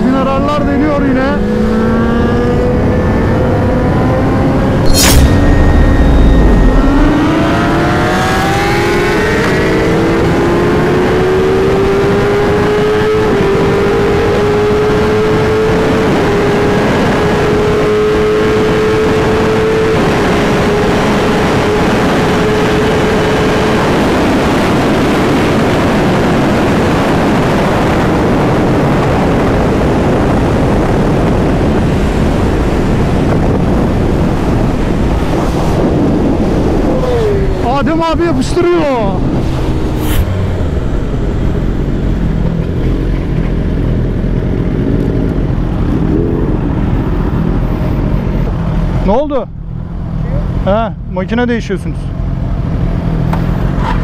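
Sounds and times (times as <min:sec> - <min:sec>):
motorcycle engine accelerating: 0:00.0 - 0:49.0
loud wind rush: 0:00.0 - 0:50.6.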